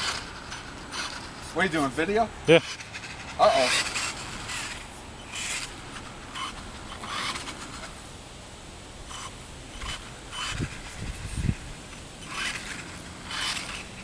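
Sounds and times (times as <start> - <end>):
car scraping over ground: 0.0 - 8.1, 9.1 - 14.0
radio-controlled car driving: 0.0 - 8.1, 9.1 - 14.0.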